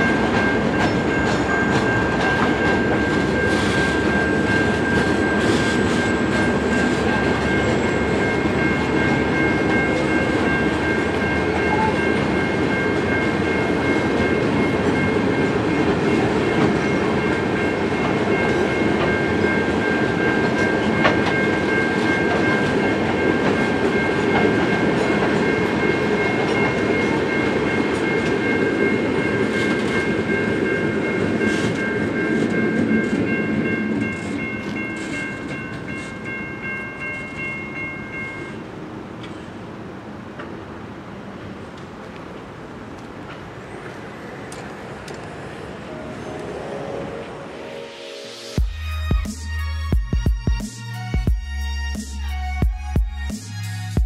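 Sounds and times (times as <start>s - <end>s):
level crossing warning bell: 0.0s - 39.5s, 43.6s - 47.8s
train wagons rumbling and clattering: 0.0s - 47.6s.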